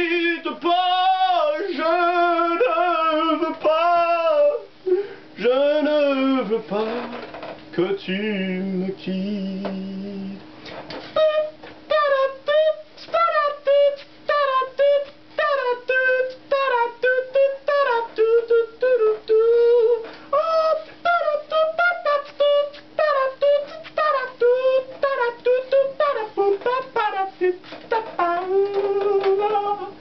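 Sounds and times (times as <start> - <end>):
man singing without words: 0.0 - 30.0.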